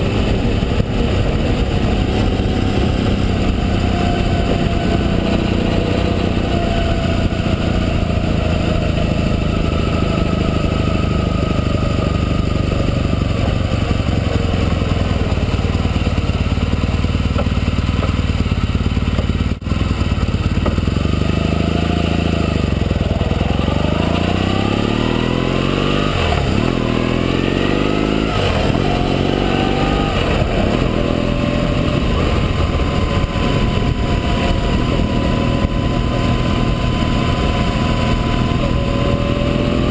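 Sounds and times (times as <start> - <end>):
wind noise: 0.0 - 17.0, 20.9 - 39.9
motorcycle engine: 0.0 - 39.9.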